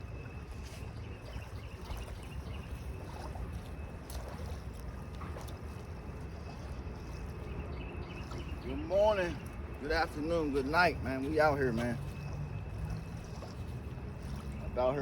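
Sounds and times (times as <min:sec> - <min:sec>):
river noise: 0:00.0 - 0:15.0
wind rumble on microphone: 0:00.0 - 0:15.0.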